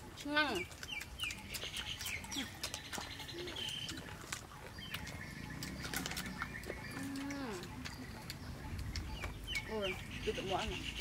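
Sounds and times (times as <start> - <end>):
birds chirping: 0.0 - 11.0
people crunching and chewing mango: 0.0 - 11.0.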